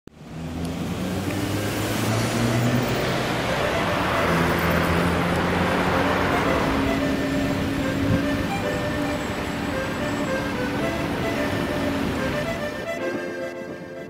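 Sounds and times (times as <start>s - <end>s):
passing cars: 0.1s - 14.0s.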